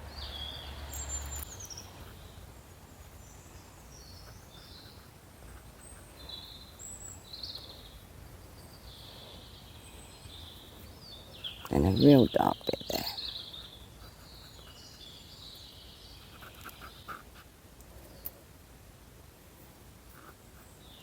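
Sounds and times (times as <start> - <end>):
birds chirping: 0.0 - 21.0
faint steady hiss: 0.0 - 21.0.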